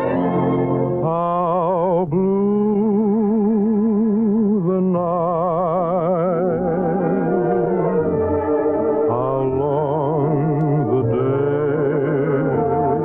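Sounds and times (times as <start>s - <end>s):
held notes with wide vibrato: 0.0s - 2.3s, 3.9s - 13.0s.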